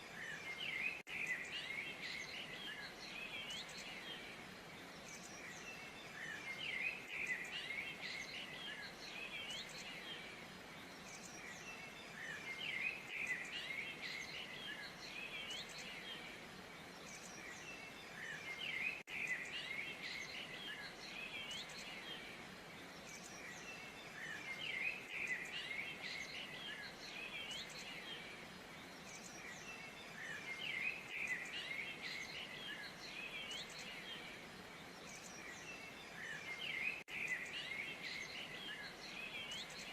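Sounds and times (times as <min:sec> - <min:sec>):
faint background hiss: 0:00.0 - 0:39.9
small songbirds chirping: 0:00.0 - 0:39.9.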